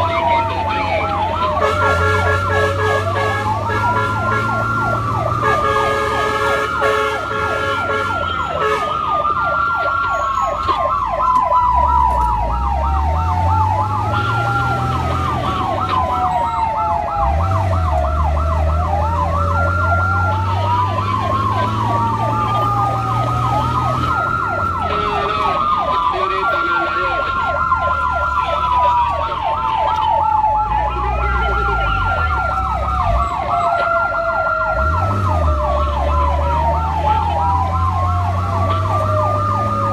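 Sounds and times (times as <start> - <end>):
fast yelping siren: 0.0 - 39.9
vehicle engine drone: 0.0 - 39.9
wailing sirens: 0.0 - 39.9.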